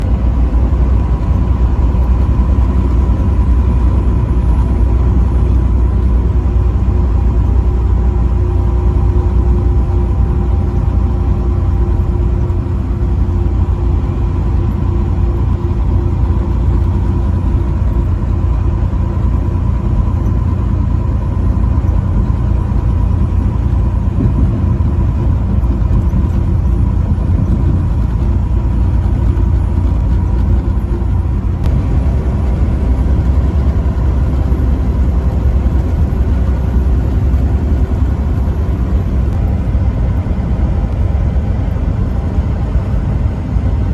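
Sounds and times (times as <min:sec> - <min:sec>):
truck engine and road rumble: 0:00.0 - 0:43.9.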